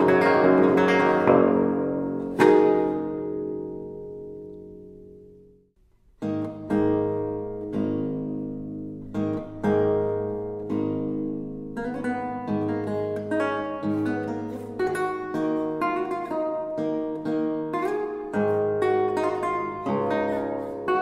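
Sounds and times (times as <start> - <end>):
plucked theorbo notes and chords: 0.0 - 5.6, 6.2 - 21.0.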